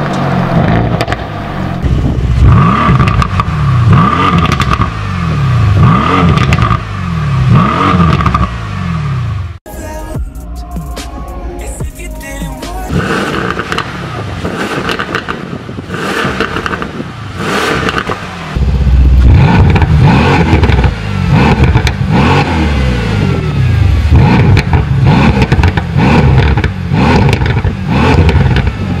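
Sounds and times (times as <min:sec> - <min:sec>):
car engine revving: 0:00.0 - 0:09.6, 0:12.5 - 0:29.0
exhaust rev blips: 0:00.0 - 0:09.6, 0:12.9 - 0:29.0.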